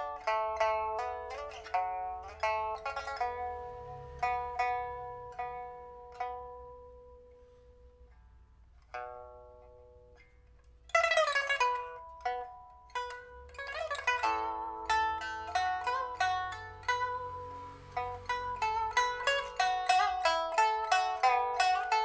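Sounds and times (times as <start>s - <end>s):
lute plucked notes and tremolo: 0.0s - 22.0s.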